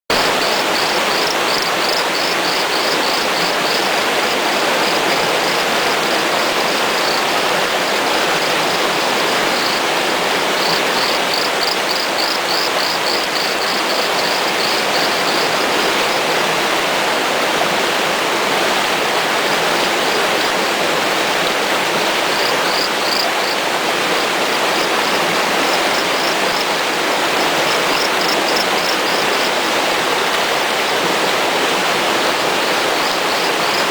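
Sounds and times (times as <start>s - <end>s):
stream rushing: 0.1s - 33.9s.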